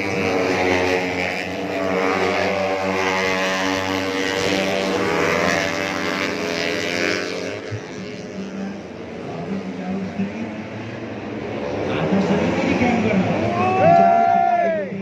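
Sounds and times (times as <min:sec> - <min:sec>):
racing motorcycles revving: 0:00.0 - 0:15.0.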